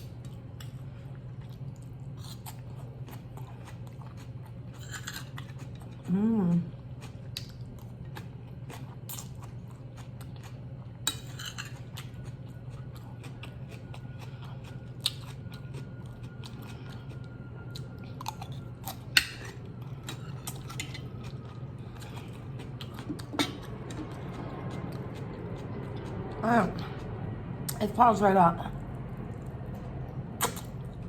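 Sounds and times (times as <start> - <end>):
person chewing food: 0.0 - 27.8, 29.1 - 31.0
steady low hum: 0.0 - 31.0.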